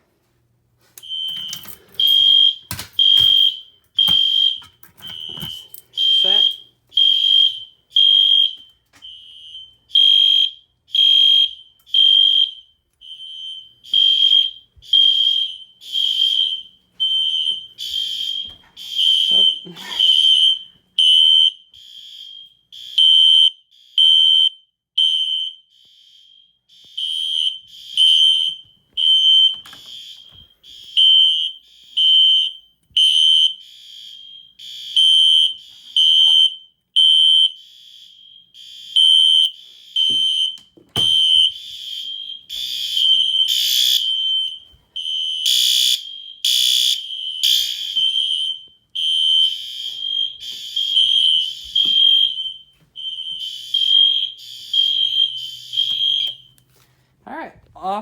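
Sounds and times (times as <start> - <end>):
fire alarm beeping: 1.0 - 56.7.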